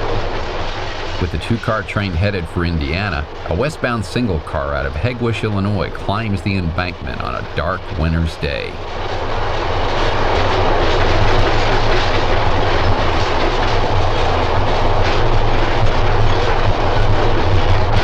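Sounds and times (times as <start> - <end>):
electric railcar rumbling past: 0.0 - 18.0.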